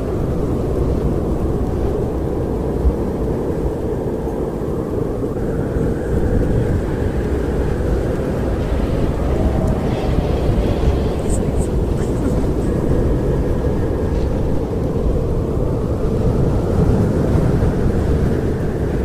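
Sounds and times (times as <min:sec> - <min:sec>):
strong wind rushing: 0:00.0 - 0:19.0.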